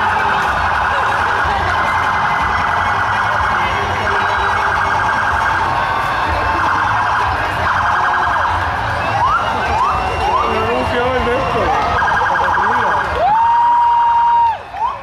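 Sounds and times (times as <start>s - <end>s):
police siren warbling: 0.0s - 13.5s.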